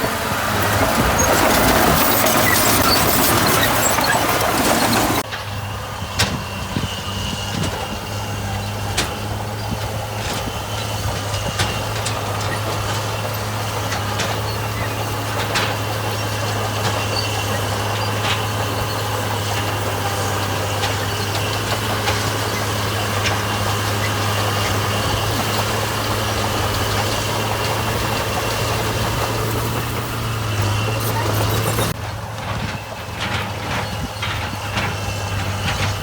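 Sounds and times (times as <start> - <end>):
diesel engine humming: 0.0 - 36.0.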